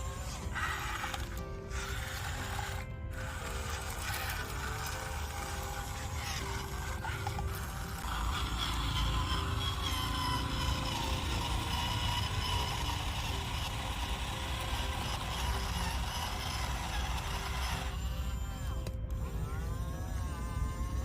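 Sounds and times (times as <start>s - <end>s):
toy motor whirring: 0.0s - 21.0s.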